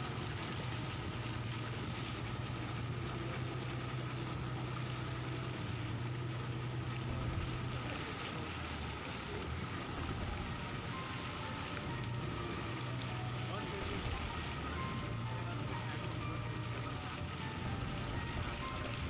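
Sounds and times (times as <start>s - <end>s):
boat engine humming: 0.0s - 19.0s
water rushing: 0.0s - 19.0s.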